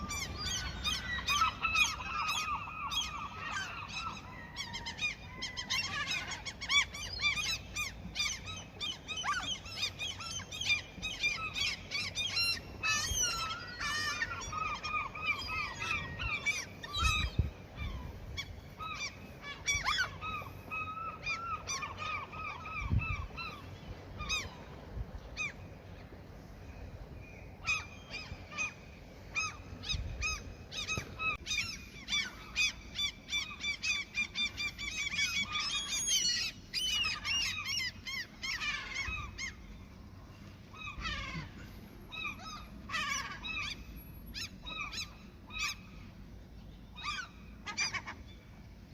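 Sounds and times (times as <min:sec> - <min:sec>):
gulls calling: 0:00.0 - 0:48.9.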